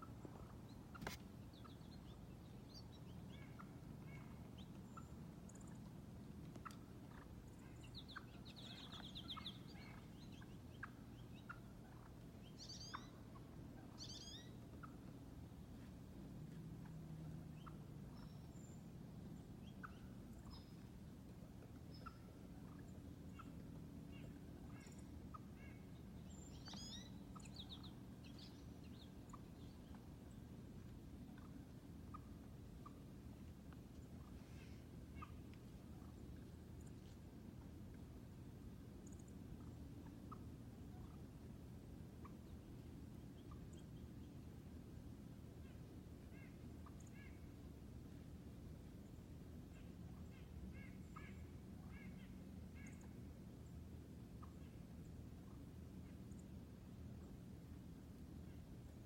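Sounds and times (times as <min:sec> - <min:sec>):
faint bird calls: 0:00.0 - 0:38.1, 0:45.4 - 0:48.2, 0:48.9 - 0:57.5
low steady hum: 0:00.0 - 0:59.0.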